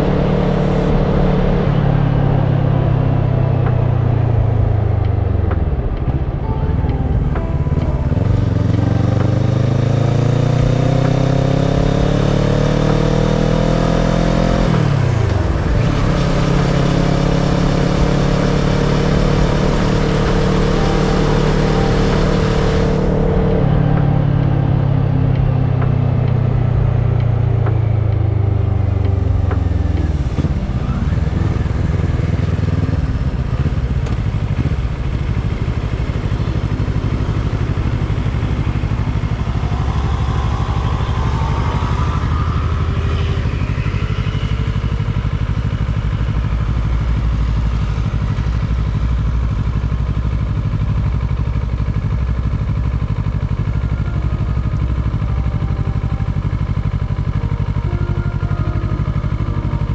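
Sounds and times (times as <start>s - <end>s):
motorcycle engine winding down: 0.0s - 59.9s.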